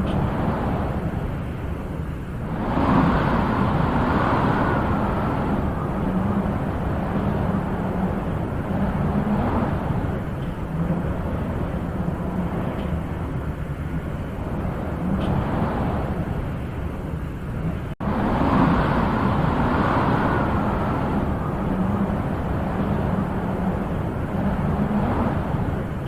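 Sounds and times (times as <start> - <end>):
wind blowing: 0.0 - 26.0.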